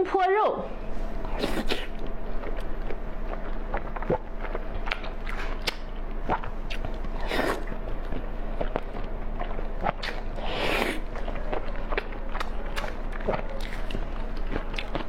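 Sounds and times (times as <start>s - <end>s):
person chewing with wet smacks: 1.2s - 15.0s.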